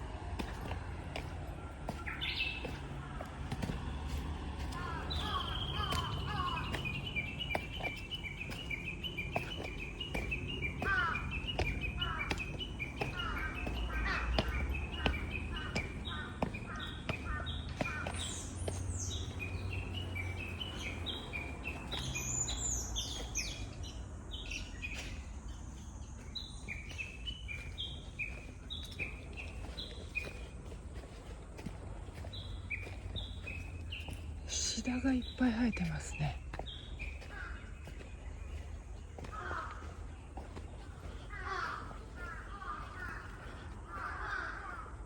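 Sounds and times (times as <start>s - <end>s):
faint footfalls: 0.0s - 44.8s
songbirds singing: 0.0s - 45.0s.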